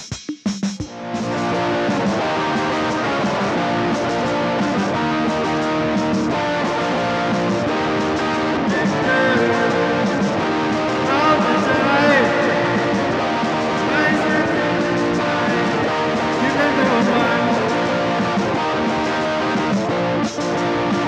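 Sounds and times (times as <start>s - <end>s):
electric guitar strumming chords: 0.9s - 21.0s.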